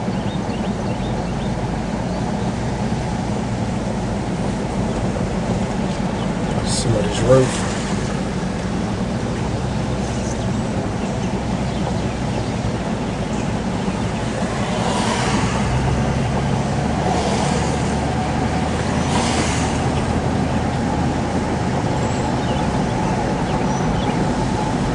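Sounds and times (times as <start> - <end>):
car engine and road noise: 0.0 - 24.9
road hiss: 0.0 - 24.9.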